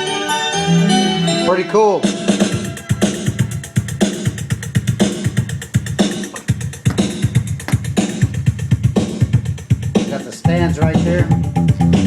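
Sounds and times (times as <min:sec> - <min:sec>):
music with heavy drum-machine beat: 0:02.0 - 0:12.0.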